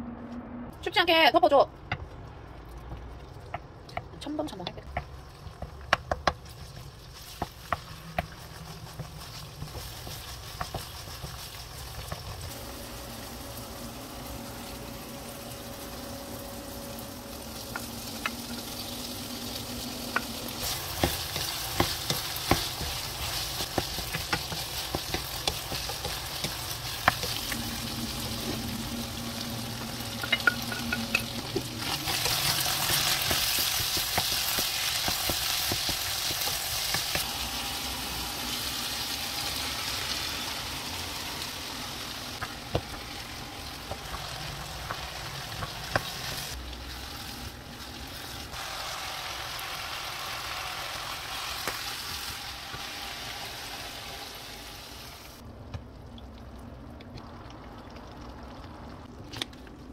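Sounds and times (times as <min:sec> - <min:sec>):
meat sizzling in a wok: 0:06.5 - 0:55.4.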